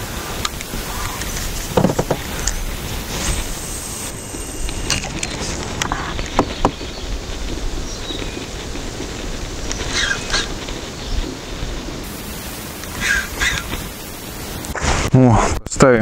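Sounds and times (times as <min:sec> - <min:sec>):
bird calling: 0:00.0 - 0:11.4, 0:12.0 - 0:14.8.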